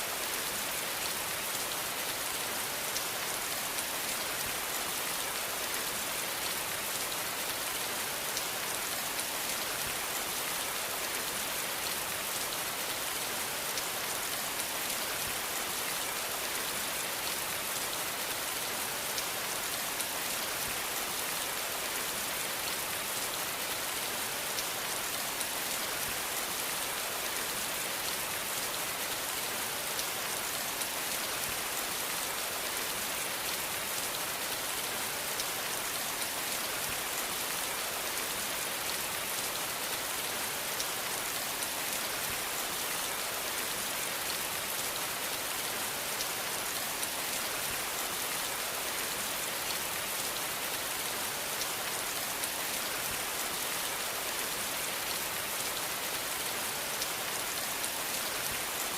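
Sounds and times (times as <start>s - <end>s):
rain on a hard surface: 0.0s - 58.9s.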